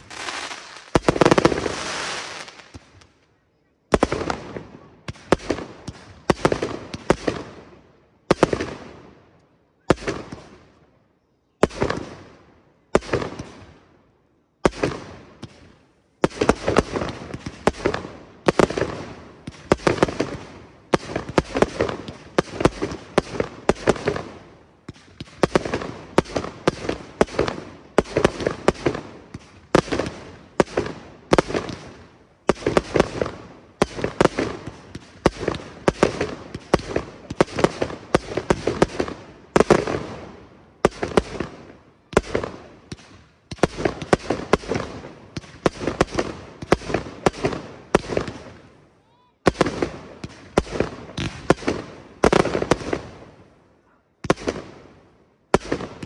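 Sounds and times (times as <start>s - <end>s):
fireworks bursting: 0.0s - 9.2s, 11.6s - 13.8s, 14.6s - 53.6s, 54.2s - 56.0s.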